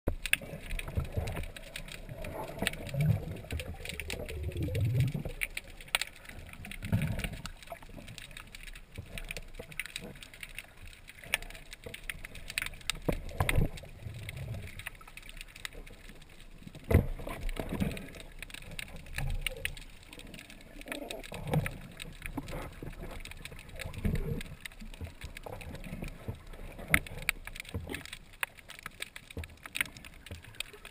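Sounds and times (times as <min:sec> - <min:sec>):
underwater clicks and crackles: 0:00.1 - 0:30.9.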